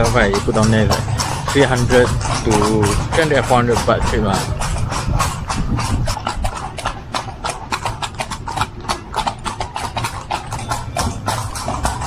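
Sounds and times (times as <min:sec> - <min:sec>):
horse hooves clip-clopping on road: 0:00.0 - 0:12.0
low rumble of moving carriage: 0:00.0 - 0:12.0.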